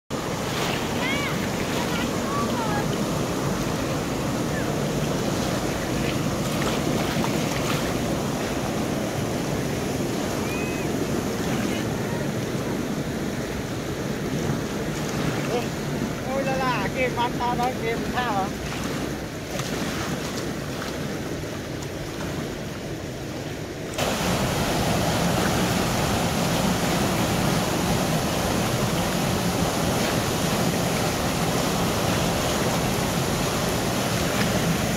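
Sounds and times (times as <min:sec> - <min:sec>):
water rushing through sluice: 0:00.1 - 0:34.9.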